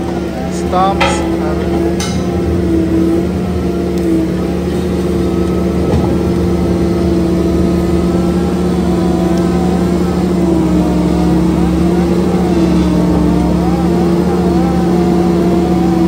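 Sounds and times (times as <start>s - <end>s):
diesel engine and milling rotor grinding: 0.0s - 16.0s.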